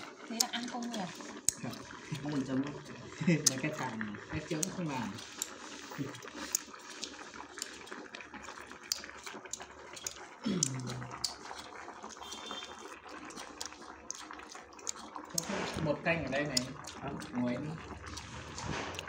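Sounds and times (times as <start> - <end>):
broth bubbling and hissing: 0.0 - 19.0
small clicks and pops: 0.0 - 19.0.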